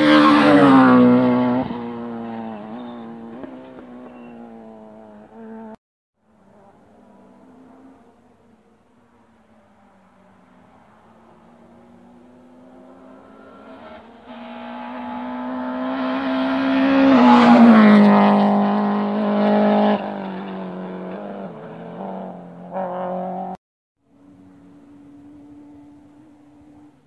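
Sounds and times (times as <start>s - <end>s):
rally car engine passing: 0.0s - 27.0s.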